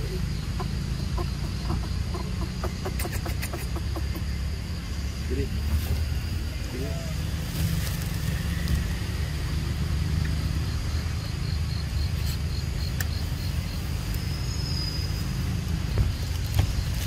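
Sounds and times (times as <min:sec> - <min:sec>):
insects chirping: 0:00.0 - 0:17.0
pulsing insect call: 0:00.0 - 0:17.0.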